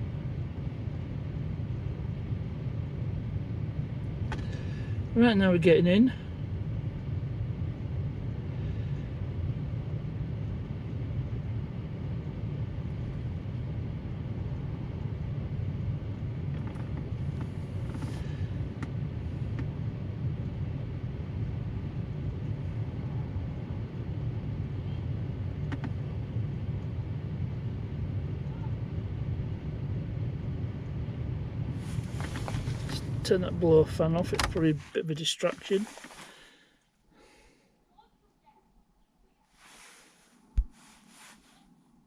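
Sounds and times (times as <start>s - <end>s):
heater blower fan running: 0.0s - 36.2s.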